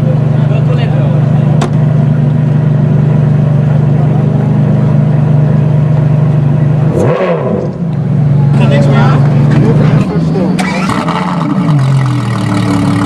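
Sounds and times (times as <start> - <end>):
loud deep car engine: 0.0 - 13.0.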